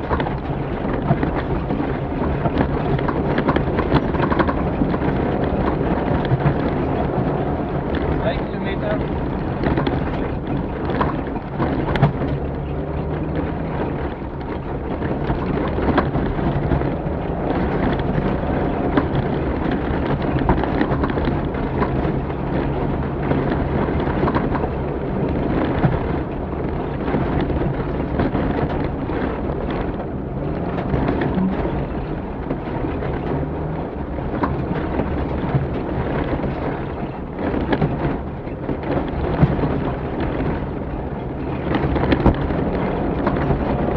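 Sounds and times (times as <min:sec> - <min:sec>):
knocks and clatter: 0:00.0 - 0:43.9
off-road vehicle engine rumble: 0:00.0 - 0:43.9.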